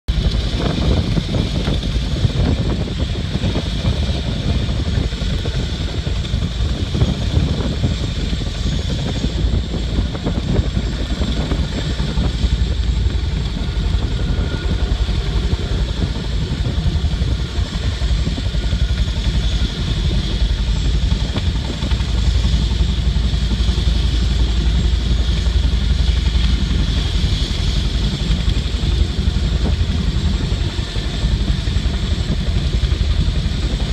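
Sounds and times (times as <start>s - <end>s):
helicopter hovering: 0.1s - 33.9s.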